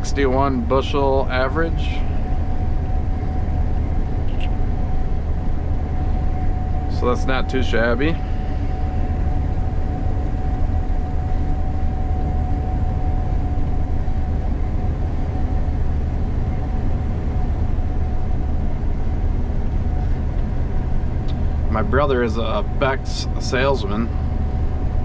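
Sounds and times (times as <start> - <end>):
combine harvester rumble: 0.0 - 25.0
thin steady whine: 0.0 - 25.0.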